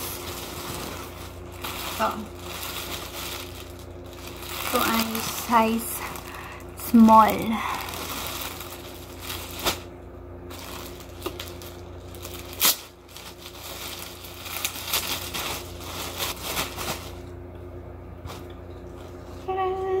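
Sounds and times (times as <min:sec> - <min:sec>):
plastic bag crinkling: 0:00.0 - 0:17.4.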